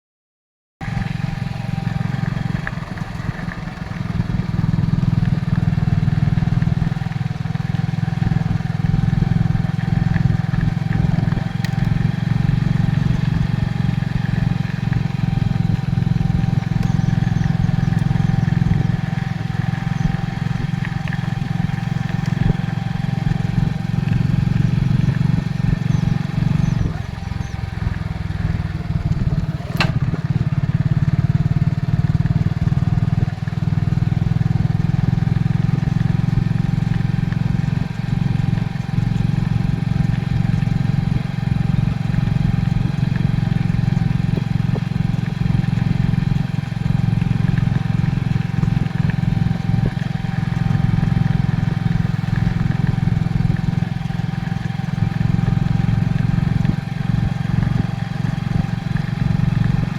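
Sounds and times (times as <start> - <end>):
motorcycle engine cruising: 0.8 - 59.9
wind and road noise: 0.8 - 59.9.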